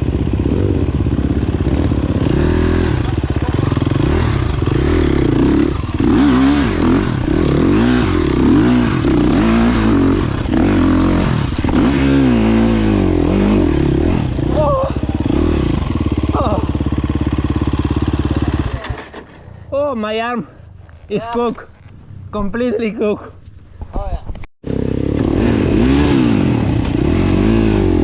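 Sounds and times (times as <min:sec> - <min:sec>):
dirt bike engine revving: 0:00.0 - 0:19.3, 0:24.6 - 0:28.0.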